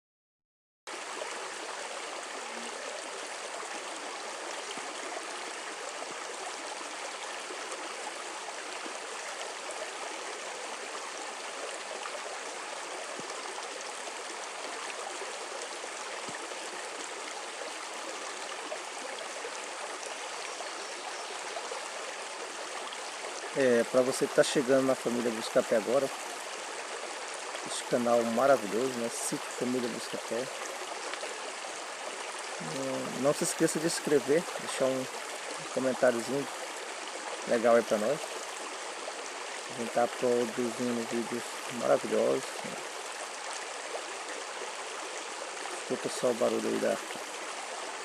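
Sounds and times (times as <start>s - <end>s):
stream flowing over rocks: 0.9s - 48.0s.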